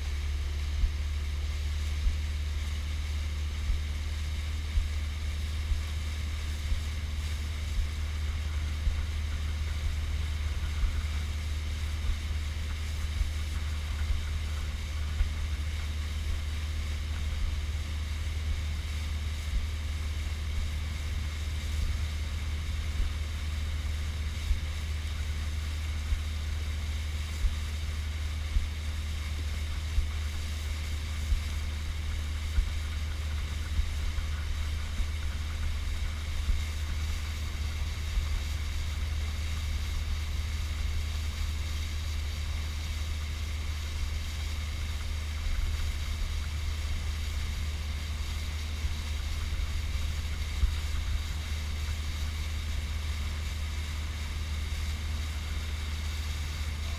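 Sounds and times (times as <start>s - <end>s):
boat motor humming: 0.0s - 56.9s
waves slapping the bow: 0.0s - 56.9s.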